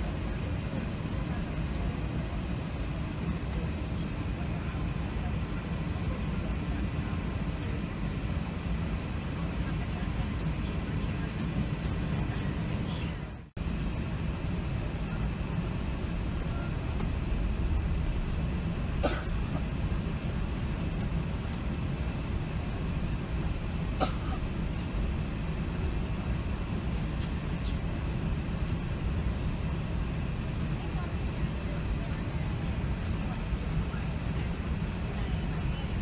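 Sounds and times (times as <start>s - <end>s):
airplane cabin rumble: 0.0s - 36.0s.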